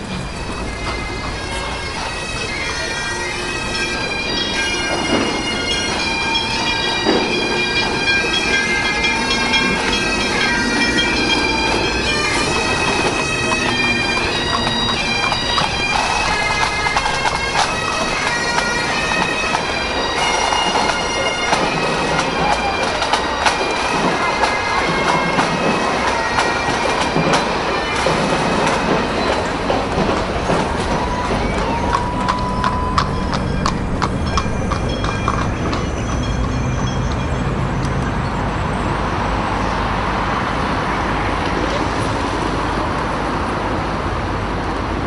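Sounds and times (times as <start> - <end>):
bagpipe music: 0.0 - 37.0.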